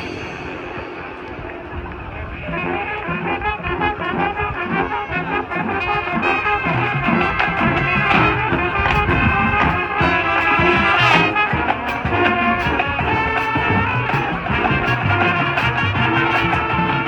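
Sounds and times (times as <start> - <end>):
marching percussion beat: 0.0 - 2.0, 4.0 - 17.0
brass sustaining chords: 0.0 - 17.0.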